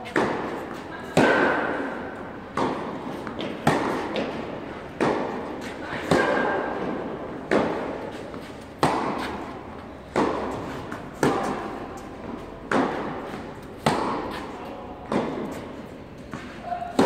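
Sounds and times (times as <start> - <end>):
tennis balls struck by rackets: 0.0 - 17.0.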